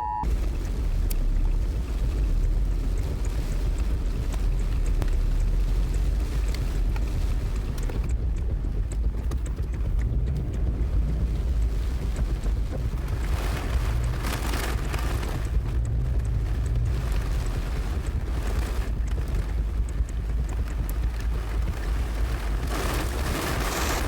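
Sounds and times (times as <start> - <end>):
road noise: 0.0 - 24.0
wind rumble: 0.0 - 24.0.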